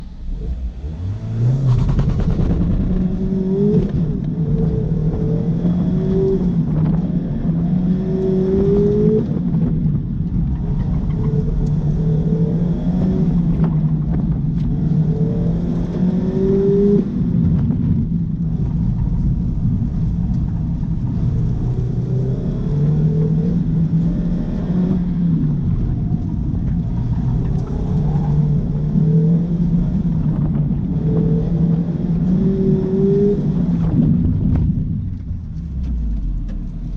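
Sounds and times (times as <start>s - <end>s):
car engine accelerating hard: 0.0s - 36.9s.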